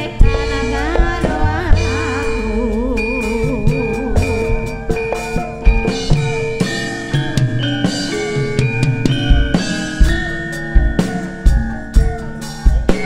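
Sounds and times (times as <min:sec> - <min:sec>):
gamelan and drum kit playing: 0:00.0 - 0:13.0.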